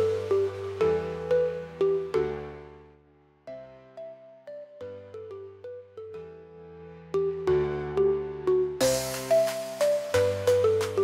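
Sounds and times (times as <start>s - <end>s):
gentle melody over bass notes: 0.0s - 11.0s.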